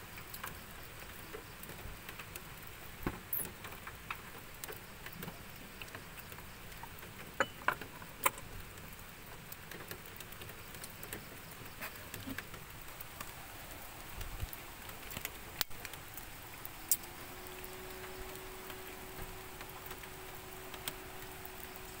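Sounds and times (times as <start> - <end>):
drips and ticks on surfaces: 0.0 - 22.0
faint steady hum: 0.0 - 22.0
light rain pattering: 0.0 - 22.0.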